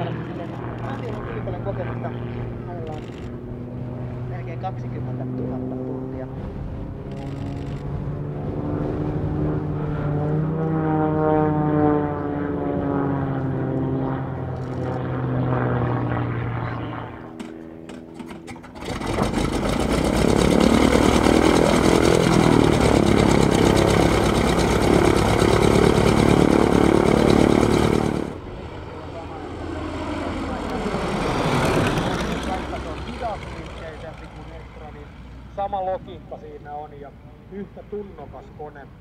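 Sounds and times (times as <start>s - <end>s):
biplane propeller engines passing: 0.0s - 39.0s
radial engine running close: 0.0s - 39.0s.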